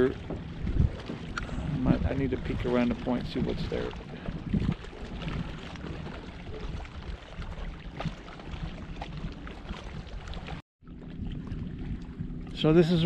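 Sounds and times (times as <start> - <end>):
water splashing around a kayak: 0.0 - 13.0
wind rumble on microphone: 0.0 - 13.0.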